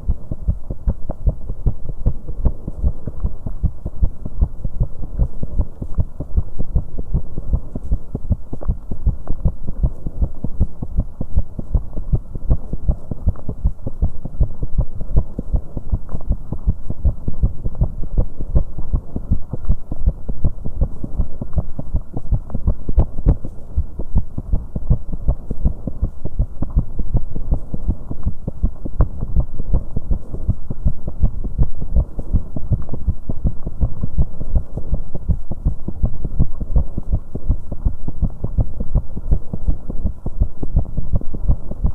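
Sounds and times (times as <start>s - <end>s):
fast heartbeat thumps: 0.0s - 41.9s.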